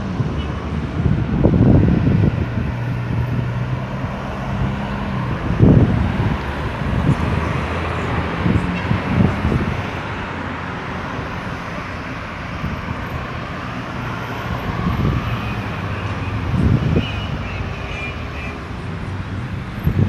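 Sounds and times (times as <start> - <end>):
road traffic engines and tyres: 0.0 - 20.0
vehicles passing close by: 0.0 - 20.0.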